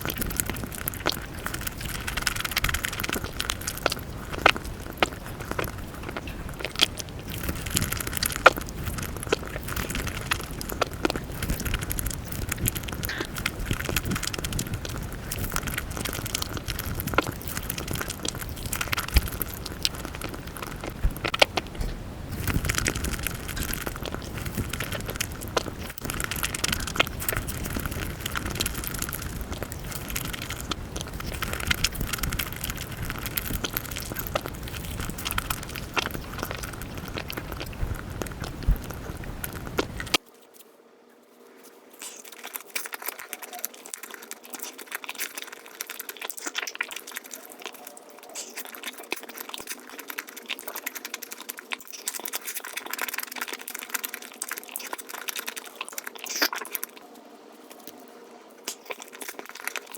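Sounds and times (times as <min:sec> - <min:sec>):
chewing and crackling: 0:00.0 - 0:40.7, 0:41.3 - 0:59.9.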